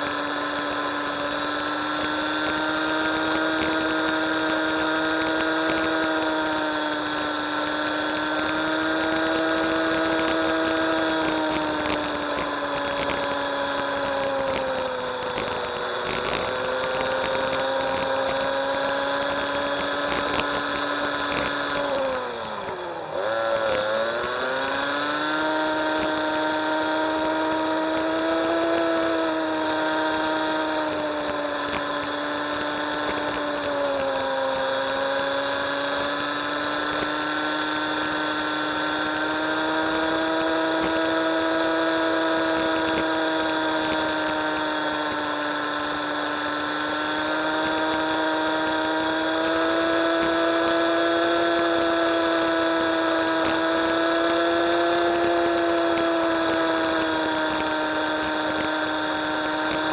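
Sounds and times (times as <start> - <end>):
small motor whining: 0.0 - 59.9
wind and road noise hiss: 0.0 - 59.9.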